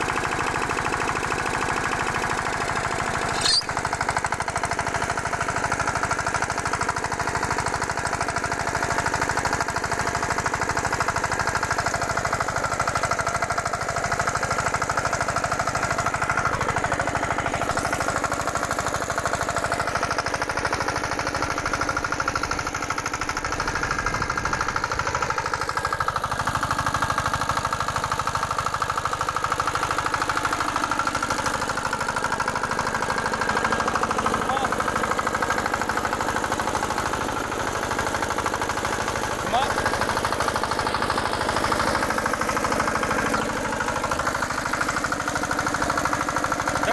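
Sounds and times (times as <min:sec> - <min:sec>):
cultivator engine chugging: 0:00.0 - 0:46.9.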